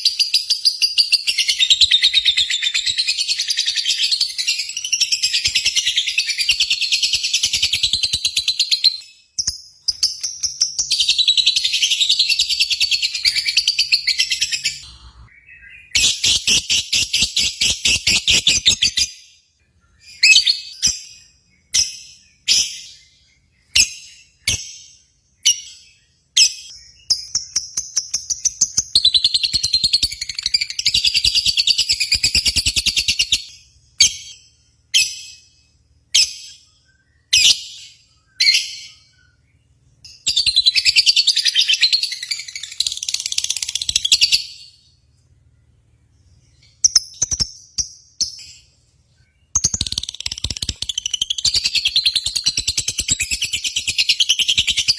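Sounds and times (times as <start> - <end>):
lovebird chirps: 0.0 - 45.1, 46.1 - 54.9.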